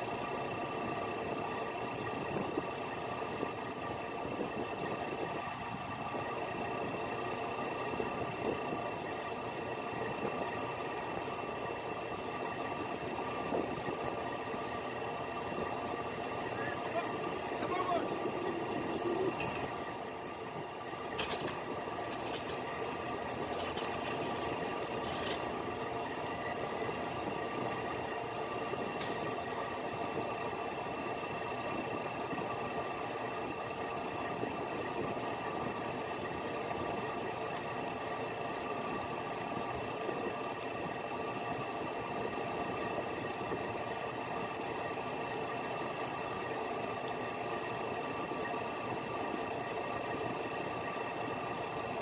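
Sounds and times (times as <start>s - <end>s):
boat engine humming: 0.0s - 52.0s.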